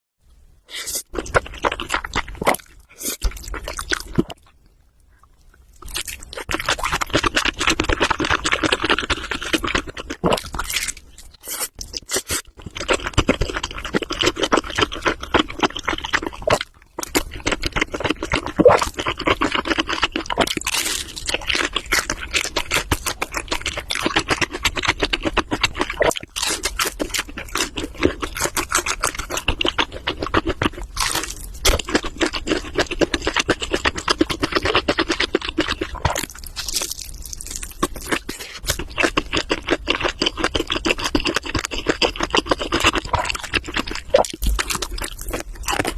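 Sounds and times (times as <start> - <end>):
chewing and crunching food: 0.6 - 45.9.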